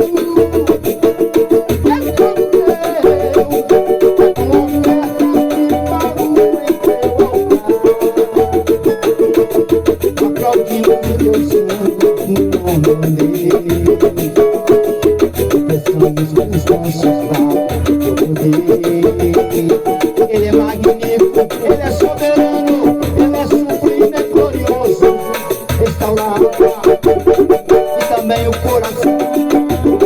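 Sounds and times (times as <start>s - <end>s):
banjo picking: 0.0s - 30.0s
shaker: 0.0s - 30.0s.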